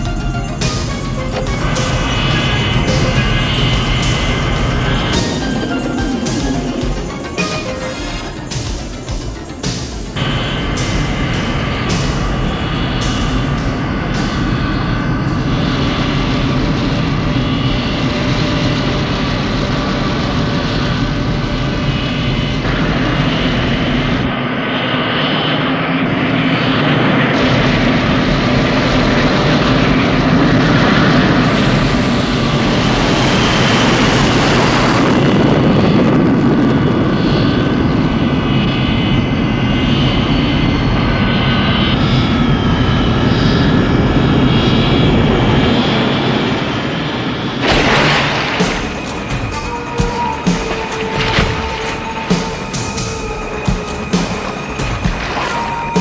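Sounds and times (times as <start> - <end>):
jet engines roaring with whine: 0.0 - 56.0.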